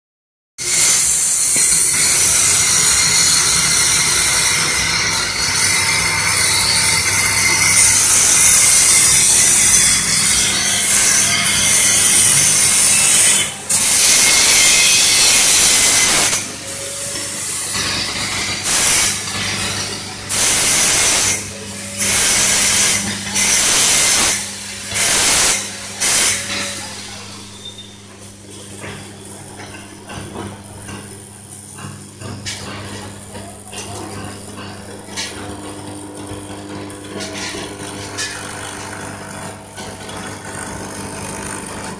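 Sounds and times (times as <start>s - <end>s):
electromagnetic hum: 1.0s - 41.9s.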